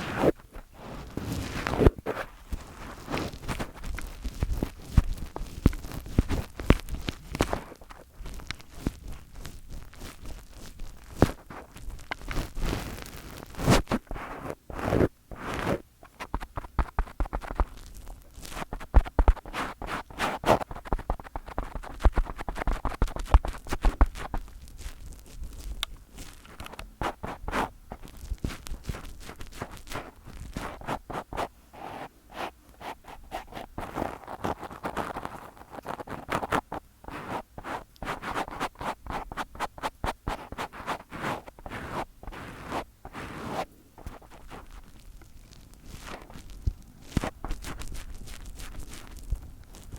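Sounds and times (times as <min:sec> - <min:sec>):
fingers rubbing on a microphone: 0:00.0 - 0:49.9.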